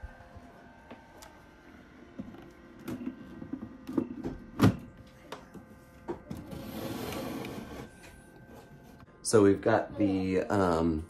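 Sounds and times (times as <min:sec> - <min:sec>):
faint machine hum: 0:00.0 - 0:11.0.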